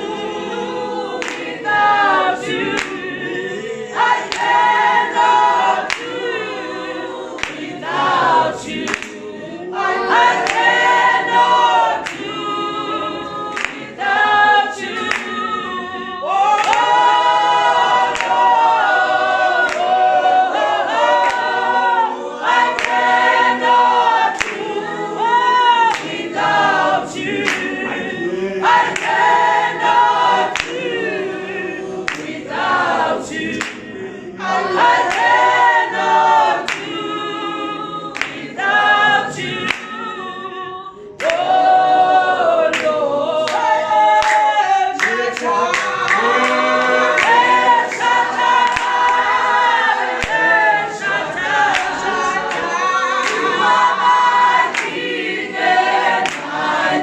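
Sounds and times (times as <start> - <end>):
choir singing gospel: 0.0 - 57.0.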